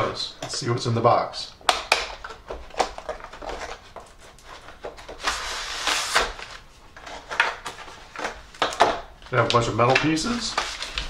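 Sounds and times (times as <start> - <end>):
plastic packaging crinkling: 1.8 - 11.0.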